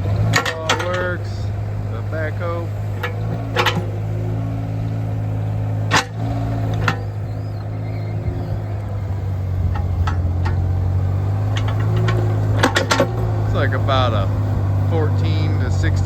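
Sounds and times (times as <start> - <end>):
metallic knocks and clanks: 0.0 - 5.0, 5.8 - 14.3
diesel engine idling: 0.0 - 16.0
hydraulics working: 0.0 - 16.0.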